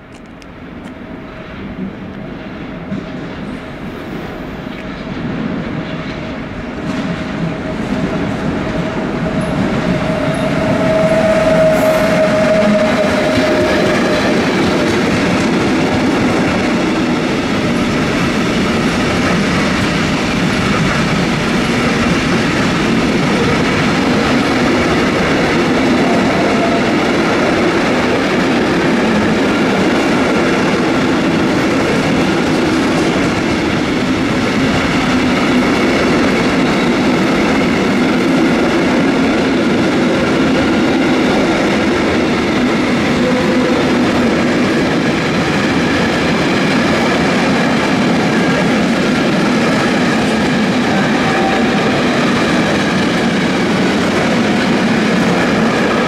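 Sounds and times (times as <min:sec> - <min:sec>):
train rumbling past on rails: 0:00.0 - 0:56.0.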